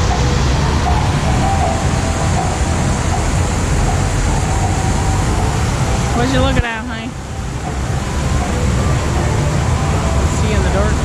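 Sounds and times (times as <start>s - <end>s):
faint tones: 0.0s - 11.0s
street traffic rumble: 0.0s - 11.0s.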